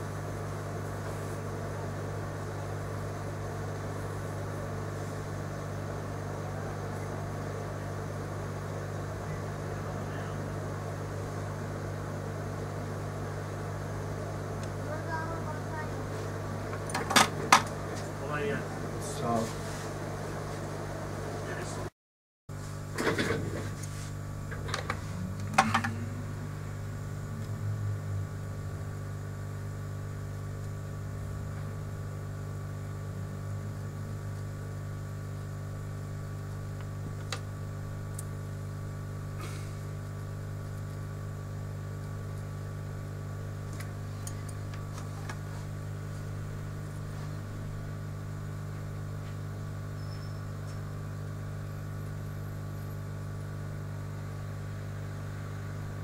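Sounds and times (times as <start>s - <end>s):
low machine hum: 0.0s - 21.9s, 22.6s - 56.0s.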